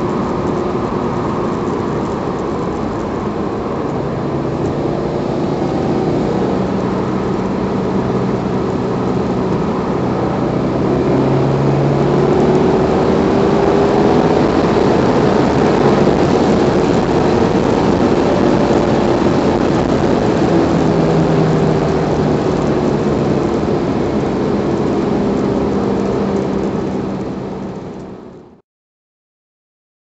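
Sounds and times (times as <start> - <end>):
tyre and wind noise: 0.0 - 28.4
car engine humming: 0.0 - 28.6.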